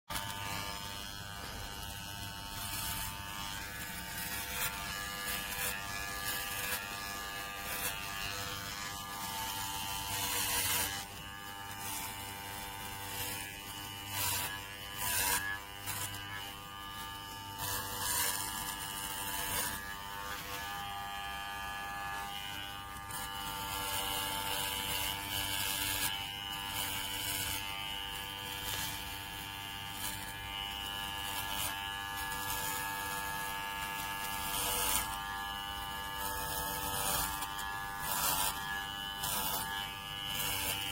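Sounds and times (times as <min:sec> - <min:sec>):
electric clipper motor buzz: 0:00.1 - 0:40.9.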